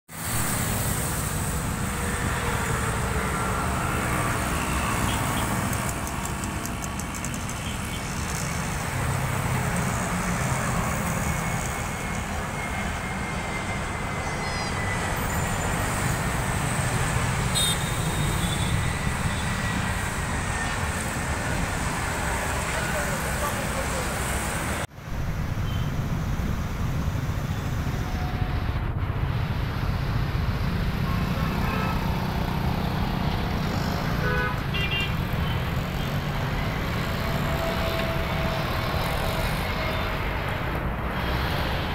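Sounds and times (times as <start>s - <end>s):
road traffic rumble: 0.1s - 41.9s.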